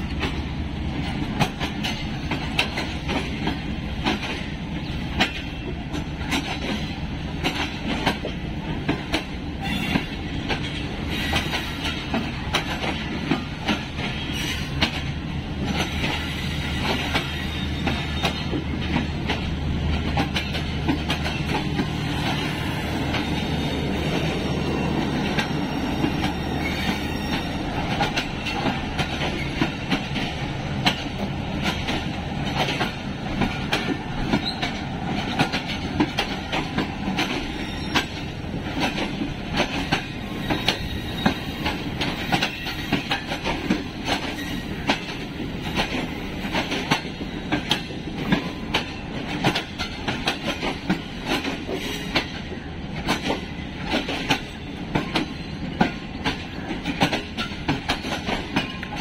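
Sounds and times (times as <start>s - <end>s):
train rumbling on track: 0.0s - 59.0s
wheels clicking over rail joints: 0.0s - 59.0s.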